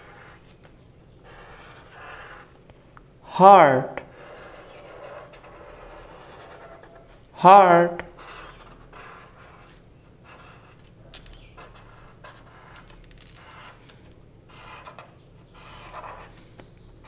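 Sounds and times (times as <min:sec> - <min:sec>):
marker scratching on paper: 0:00.0 - 0:00.6, 0:01.2 - 0:02.6, 0:04.0 - 0:07.2, 0:08.0 - 0:16.8.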